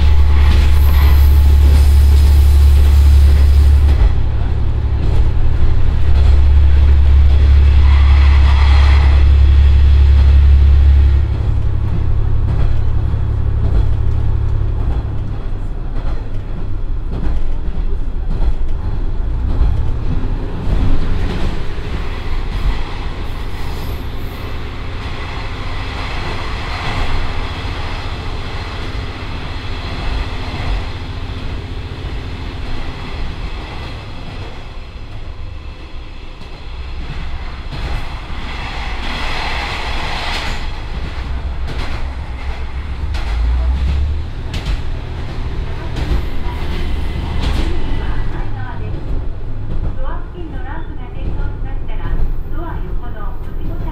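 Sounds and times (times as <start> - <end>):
wheels rumbling on rail: 0.0 - 53.9.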